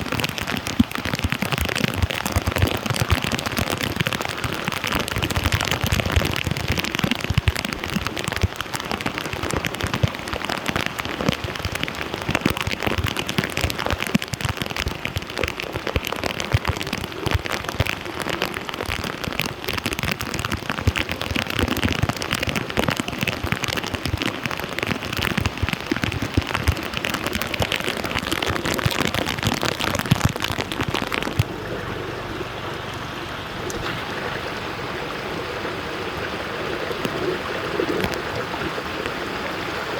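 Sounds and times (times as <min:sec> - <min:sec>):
flowing water rush: 0:00.0 - 0:39.9
heavy rain pattering on water: 0:00.0 - 0:39.9.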